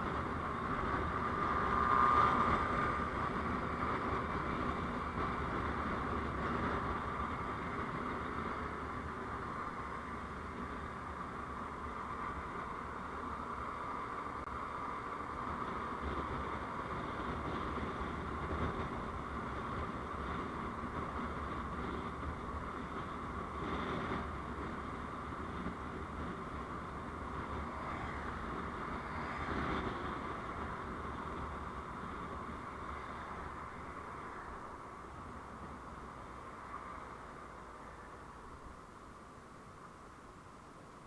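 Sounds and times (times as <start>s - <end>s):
road and vehicle noise: 0.0s - 41.0s.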